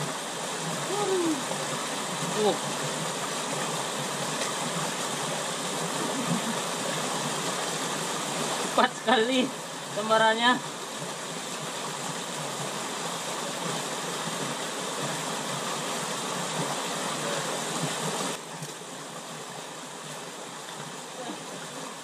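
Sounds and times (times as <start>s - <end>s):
stream rushing over stone: 0.0s - 22.0s.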